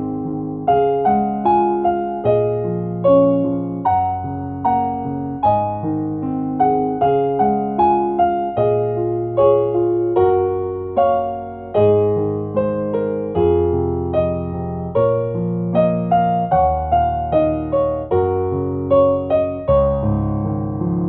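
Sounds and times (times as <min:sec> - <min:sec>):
electric piano melody: 0:00.0 - 0:21.0.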